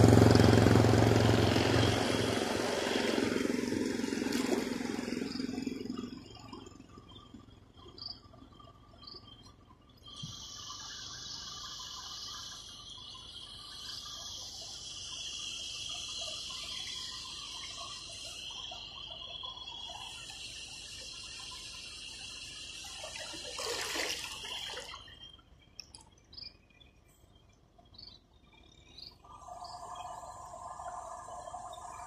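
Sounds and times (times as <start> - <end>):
high-pitched insect chorus: 1.2 - 32.0.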